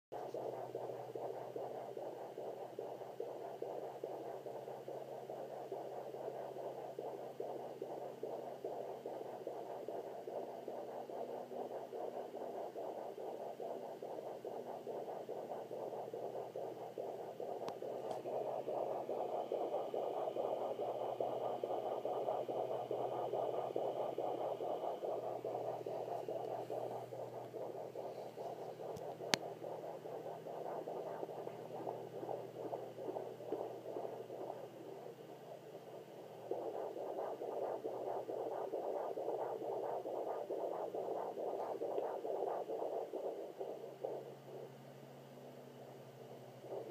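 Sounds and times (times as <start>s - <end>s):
doppler loudspeaker static hiss: 0.2s - 46.9s.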